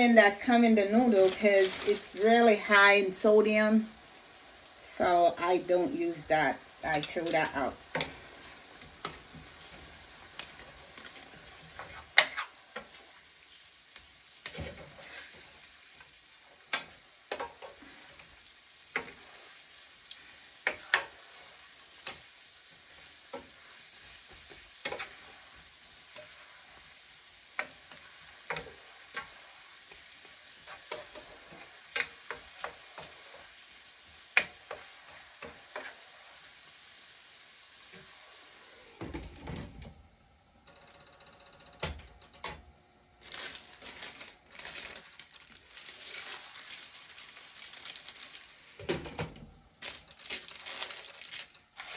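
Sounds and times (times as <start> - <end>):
food sizzling in a pan: 0.0 - 39.7, 43.2 - 51.9.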